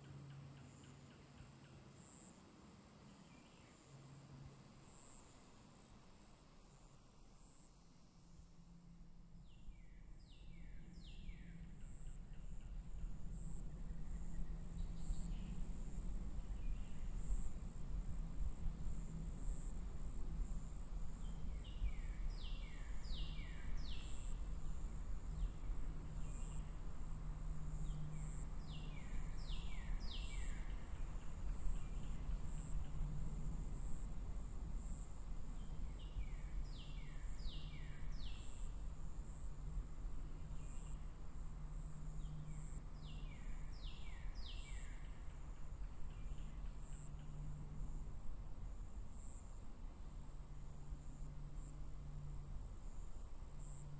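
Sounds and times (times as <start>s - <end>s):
faint high pulsing buzz: 0.0s - 53.9s.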